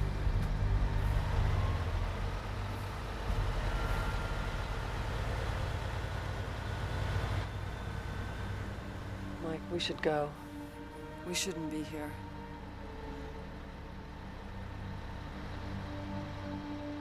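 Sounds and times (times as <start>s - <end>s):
heavy truck engine running: 0.0s - 17.0s.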